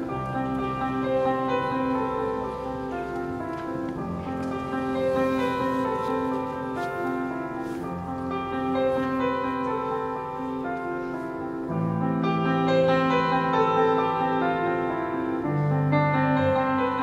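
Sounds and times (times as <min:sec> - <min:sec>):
grand piano playing slowly: 0:00.0 - 0:17.0.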